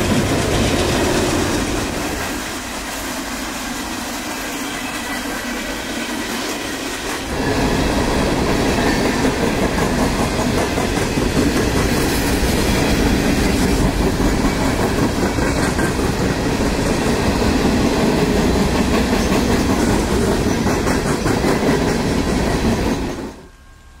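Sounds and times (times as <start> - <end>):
train wheels clacking over rail joints: 0.0 - 23.4
freight train rumbling past: 0.0 - 24.0.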